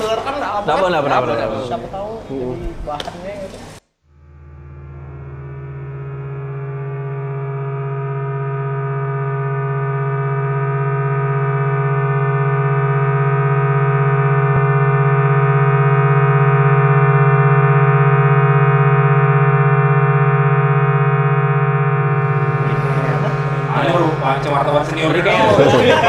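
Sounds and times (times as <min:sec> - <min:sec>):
droning pulsing musical note: 0:04.1 - 0:26.0.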